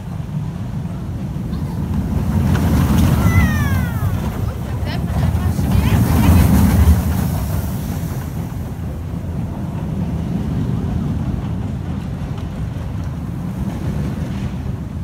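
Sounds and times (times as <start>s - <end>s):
roller coaster train on track: 0.0s - 15.0s
wind buffeting the microphone: 0.0s - 15.0s.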